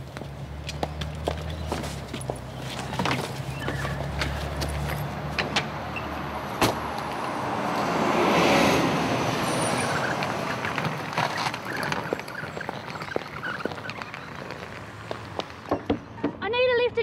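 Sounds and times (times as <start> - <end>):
car passing: 0.3 - 16.4.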